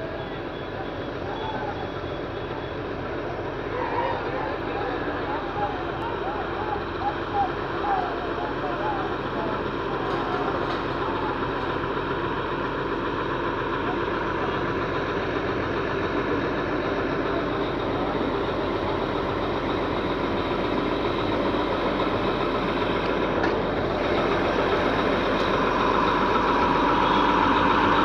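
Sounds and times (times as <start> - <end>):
diesel engine running: 0.0 - 28.0
machine whine: 0.0 - 28.0.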